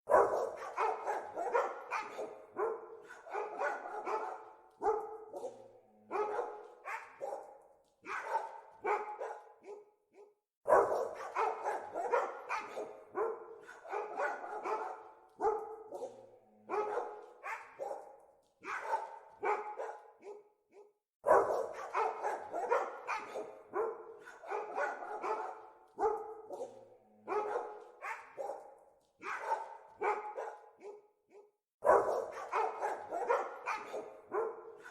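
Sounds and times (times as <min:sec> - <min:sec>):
dogs barking: 0:00.1 - 0:34.9.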